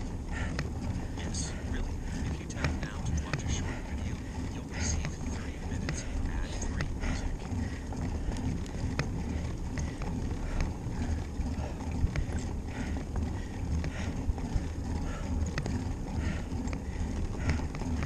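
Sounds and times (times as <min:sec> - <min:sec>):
bicycle tyres rumbling: 0:00.0 - 0:18.0
bike clicks and rattles: 0:00.0 - 0:18.0.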